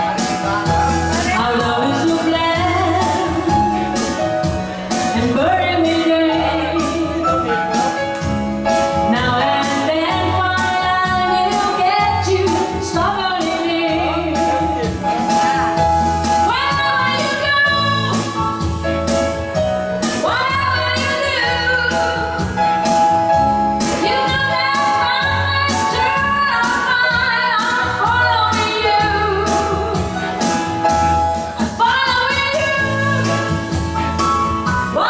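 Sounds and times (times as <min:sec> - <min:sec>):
backing music with bass and drums: 0:00.0 - 0:35.0
woman singing pop song: 0:00.0 - 0:35.0.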